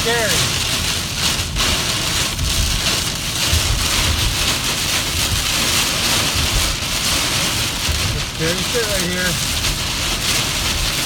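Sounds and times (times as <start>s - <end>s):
car rumbling on wet road: 0.0s - 11.0s
heavy rain on car: 0.0s - 11.0s.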